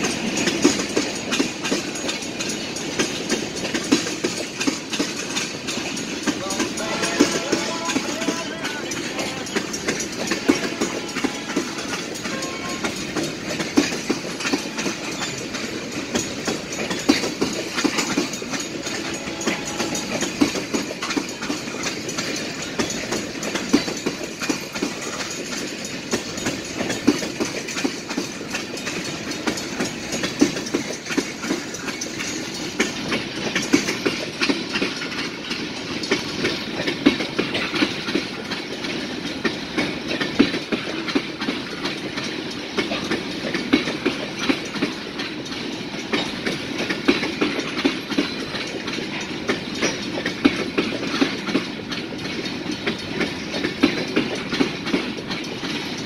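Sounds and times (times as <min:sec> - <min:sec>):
freight train rolling past: 0:00.0 - 0:56.0
wheels clacking over rail joints: 0:00.0 - 0:56.0.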